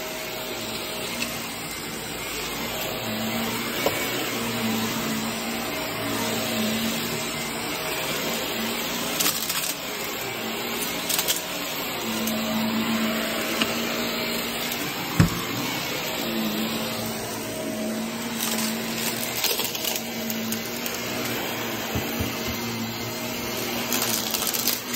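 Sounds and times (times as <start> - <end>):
vacuum cleaner humming on carpet: 0.0 - 24.9.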